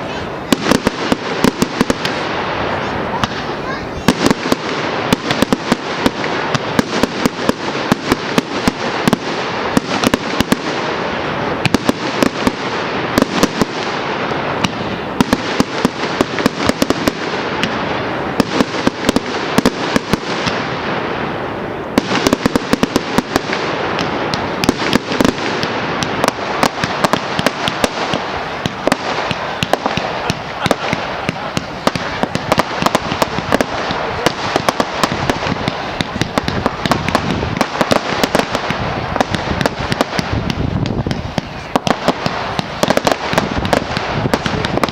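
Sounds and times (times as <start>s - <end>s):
fireworks bangs and pops: 0.0s - 44.9s.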